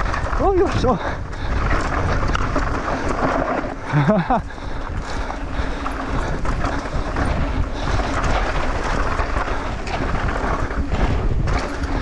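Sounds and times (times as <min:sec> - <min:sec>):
bike rattling: 0:00.0 - 0:12.0
bike tyres rolling on dirt: 0:00.0 - 0:12.0
wind over microphone: 0:00.0 - 0:12.0.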